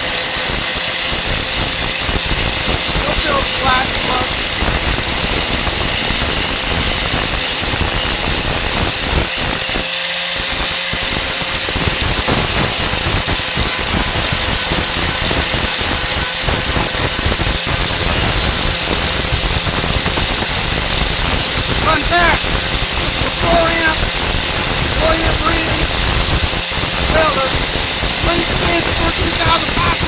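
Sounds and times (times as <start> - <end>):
disc grinding metal: 0.0 - 30.0
grinder motor whine: 0.0 - 30.0.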